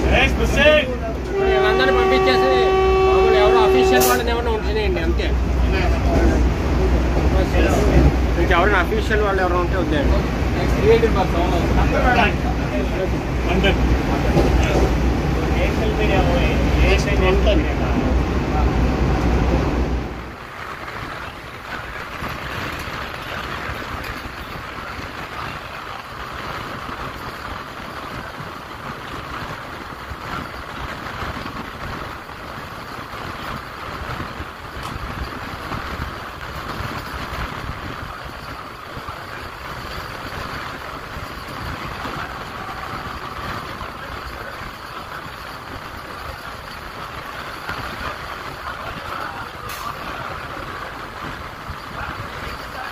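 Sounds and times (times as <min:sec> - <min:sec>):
electric train rushing past: 0:00.0 - 0:52.9.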